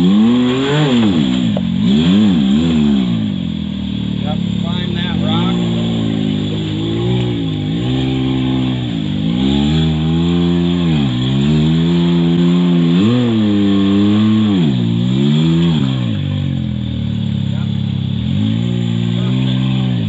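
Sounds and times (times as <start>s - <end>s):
utility vehicle engine revving: 0.0s - 20.0s.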